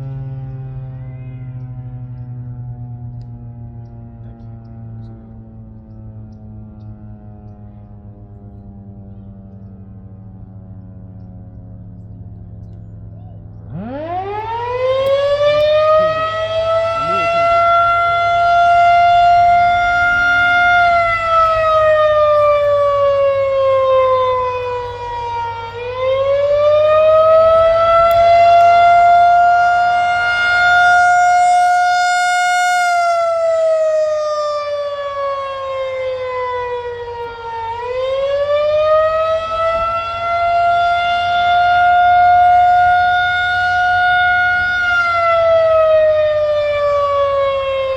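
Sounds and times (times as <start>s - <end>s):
warning siren rising and falling: 0.0s - 47.9s.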